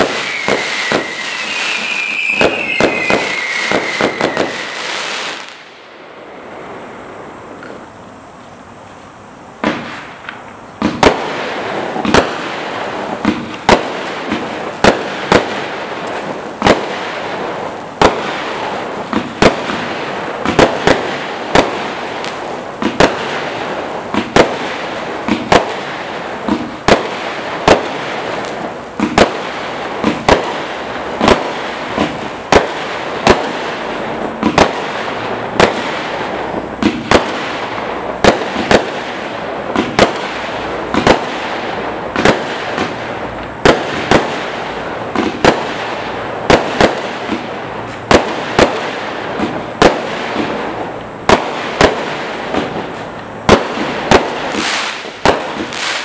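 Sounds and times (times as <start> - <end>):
firework bangs: 0.0 - 7.9, 9.6 - 56.0
hiss of burning fireworks: 0.0 - 56.0.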